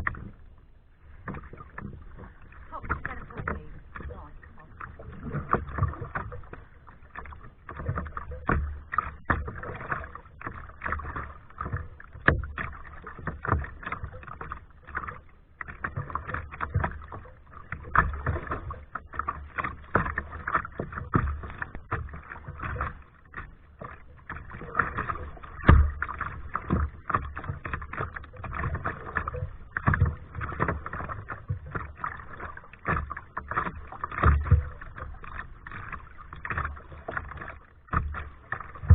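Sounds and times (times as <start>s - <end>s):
kayak paddle splashing in water: 0.0s - 38.9s
paddle knocks: 1.2s - 38.9s.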